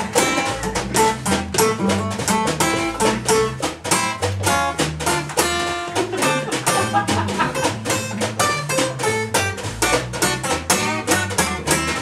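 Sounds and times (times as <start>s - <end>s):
bass: 0.0s - 12.0s
guitar solo: 0.0s - 12.0s
percussion: 0.0s - 12.0s
strummed guitar accompaniment: 0.0s - 12.0s.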